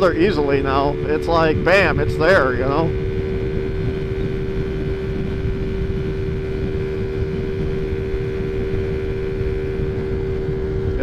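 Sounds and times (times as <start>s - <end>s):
scooter engine running high: 0.0s - 11.0s
wind buffeting microphone: 0.0s - 11.0s.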